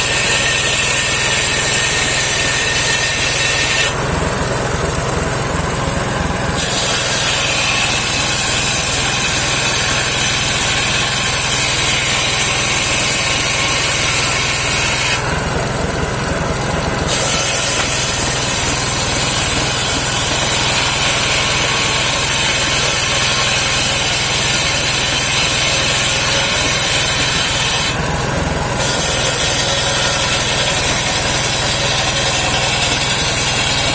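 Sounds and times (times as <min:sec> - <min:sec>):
engine running: 0:00.0 - 0:33.9
saw cutting wood whine: 0:00.0 - 0:33.9.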